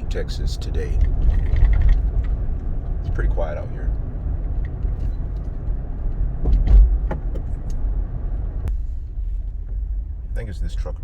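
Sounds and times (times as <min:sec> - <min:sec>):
car rumbling: 0:00.0 - 0:11.0.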